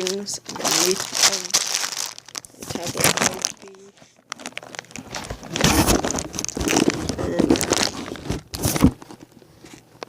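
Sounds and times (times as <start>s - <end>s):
paper and cardboard rustling: 0.0s - 9.9s.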